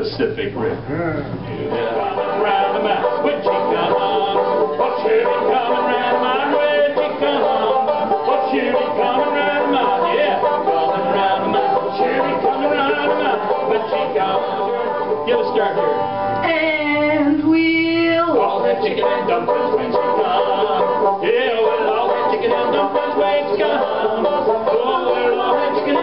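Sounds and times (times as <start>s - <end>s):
bluegrass banjo: 1.6s - 16.3s, 18.3s - 26.0s.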